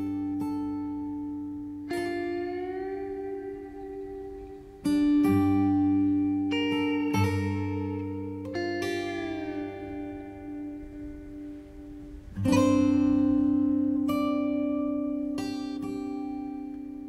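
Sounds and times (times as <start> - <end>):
slow guitar chords ringing: 0.0 - 17.0.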